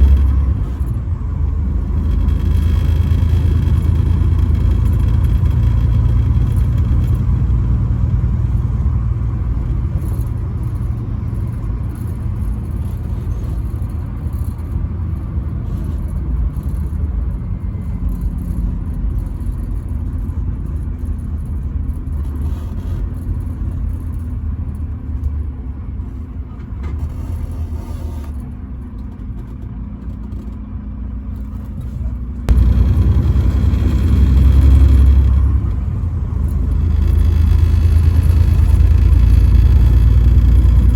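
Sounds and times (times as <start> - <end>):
truck rumbling on highway: 0.0 - 40.9.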